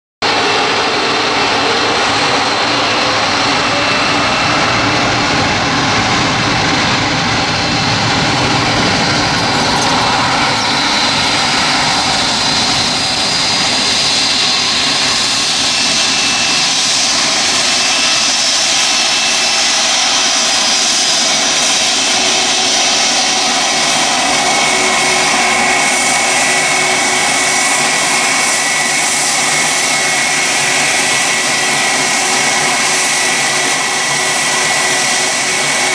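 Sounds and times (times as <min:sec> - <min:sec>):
jet engines roaring at takeoff: 0:00.2 - 0:35.9.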